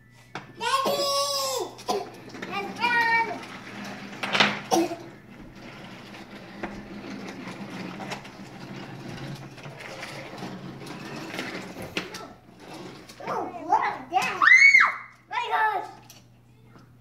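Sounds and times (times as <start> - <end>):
toy train gear noise: 0.6 - 16.3.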